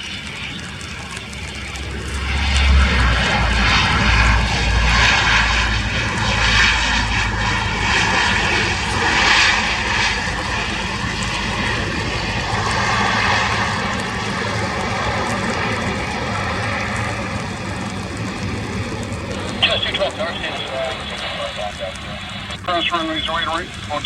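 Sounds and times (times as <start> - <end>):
turboprop engines and propellers: 0.0 - 24.0.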